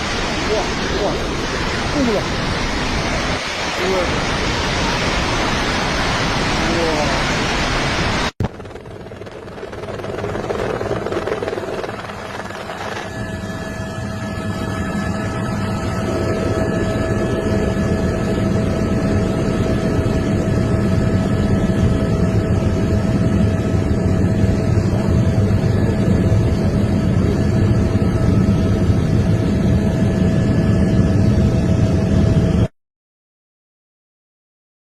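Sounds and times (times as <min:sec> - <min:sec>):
high whine: 0:00.0 - 0:32.7
machine drone: 0:00.0 - 0:32.7.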